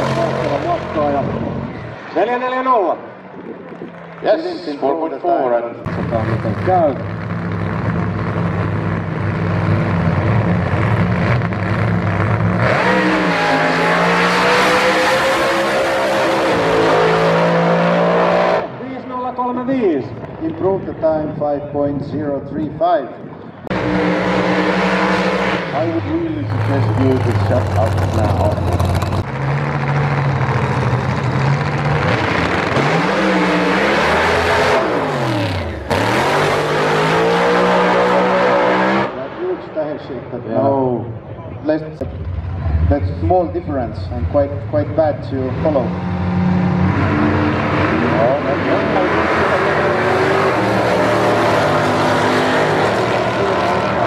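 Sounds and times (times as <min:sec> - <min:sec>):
drag car engine accelerating: 0:00.0 - 0:02.6, 0:05.8 - 0:18.9, 0:23.5 - 0:39.7, 0:42.0 - 0:54.0.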